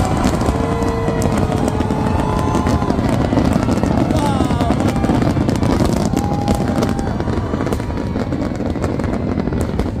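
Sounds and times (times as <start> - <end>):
fireworks rumbling: 0.0 - 10.0
sharp firework cracks and bangs: 0.0 - 10.0.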